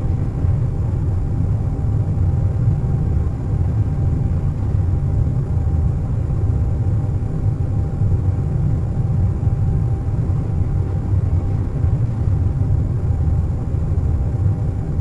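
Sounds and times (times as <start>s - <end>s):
deep rumble of engines and airflow: 0.0s - 15.0s
faint even hum: 0.0s - 15.0s.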